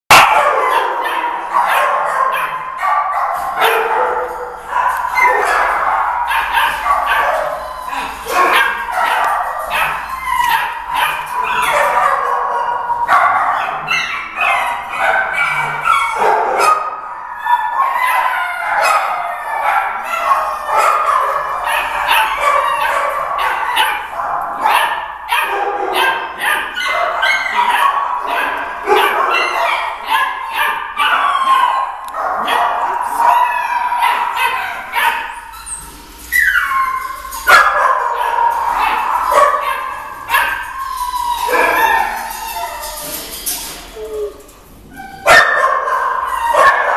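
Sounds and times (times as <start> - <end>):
dogs barking and yipping: 0.1 - 46.9.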